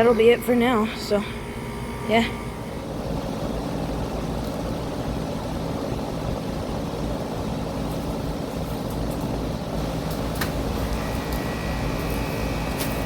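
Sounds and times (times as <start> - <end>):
compressor hum: 0.0 - 13.0
condenser fan rushing: 0.0 - 13.0.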